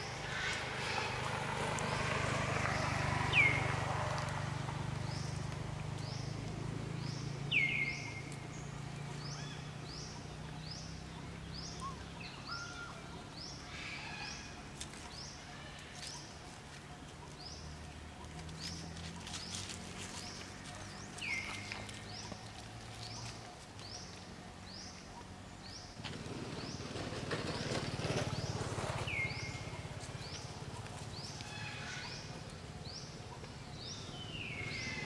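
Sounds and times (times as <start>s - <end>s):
bird chirping: 6.0s - 35.0s.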